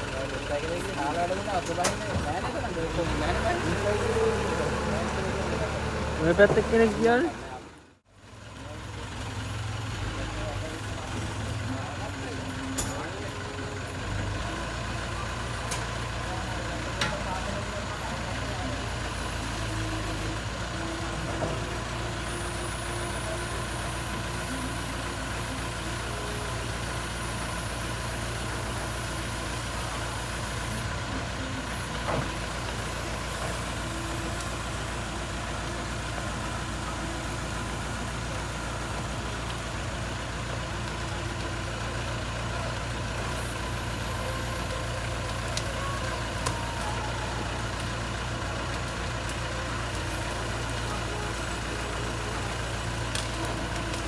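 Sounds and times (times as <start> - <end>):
diesel engine running at low revs: 0.0 - 54.0.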